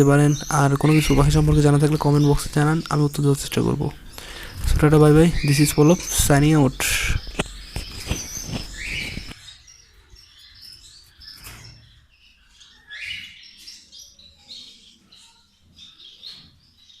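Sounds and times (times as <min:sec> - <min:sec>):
finches chirping: 0:00.0 - 0:17.0.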